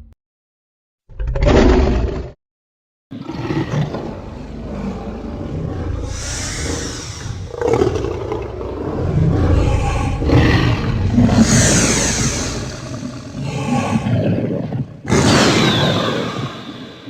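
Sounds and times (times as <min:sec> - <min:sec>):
monster roar: 0:03.2 - 0:17.0.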